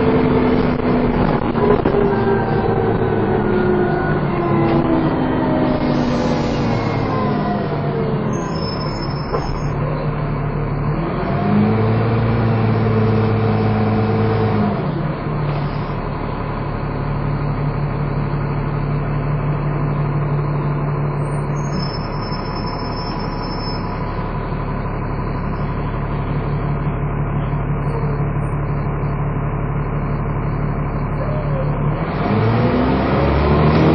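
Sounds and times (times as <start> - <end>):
bus engine driven hard: 0.0 - 33.9.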